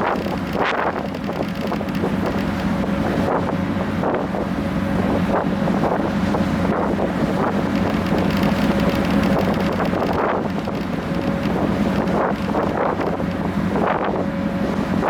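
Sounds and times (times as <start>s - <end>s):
ship engines droning: 0.0s - 15.0s
wind buffeting microphone: 0.0s - 15.0s.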